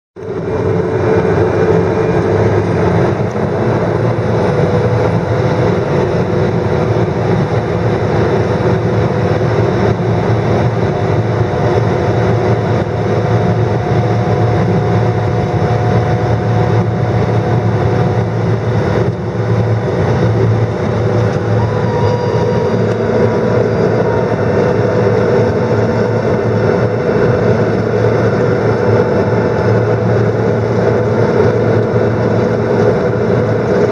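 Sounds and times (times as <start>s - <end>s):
engine whine: 0.2s - 33.9s
turboprop engine hum in cockpit: 0.2s - 33.9s.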